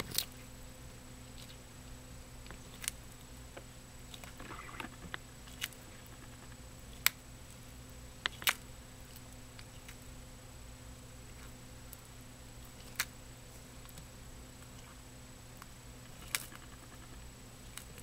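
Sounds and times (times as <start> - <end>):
turtle crunching insect: 0.0 - 0.5, 1.2 - 1.7, 2.4 - 7.6, 8.2 - 10.2, 11.2 - 18.0
faint steady hum: 0.0 - 18.0.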